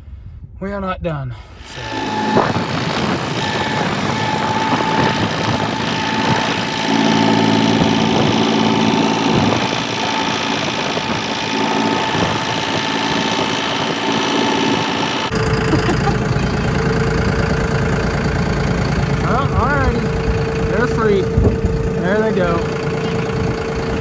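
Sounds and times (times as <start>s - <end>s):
tractor engine running: 1.5s - 24.0s.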